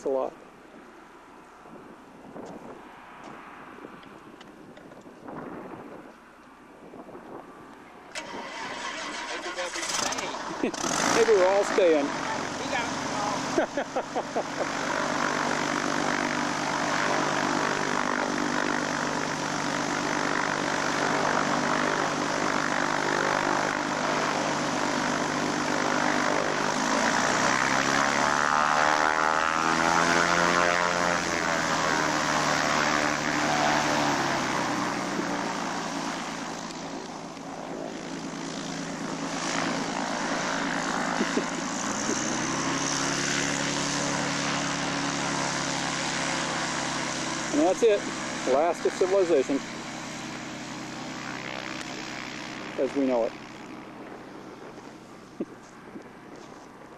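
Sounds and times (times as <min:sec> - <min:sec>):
propeller airplane engine running: 0:00.0 - 0:56.9.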